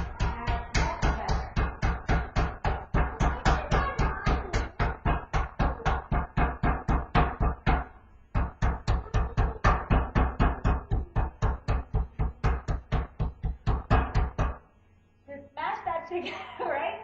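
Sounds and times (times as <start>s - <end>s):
meat pounder thudding: 0.0s - 14.6s.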